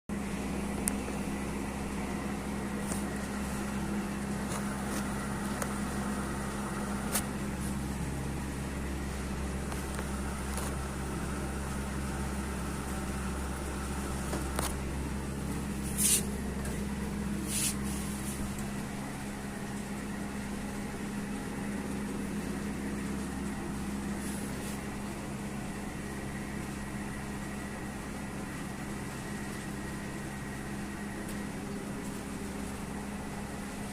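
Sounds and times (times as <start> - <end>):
low mechanical hum: 0.1 - 33.9.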